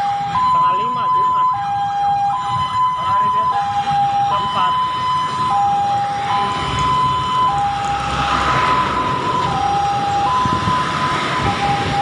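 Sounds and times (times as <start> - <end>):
road traffic: 0.0 - 12.0
two-tone siren: 0.0 - 12.0.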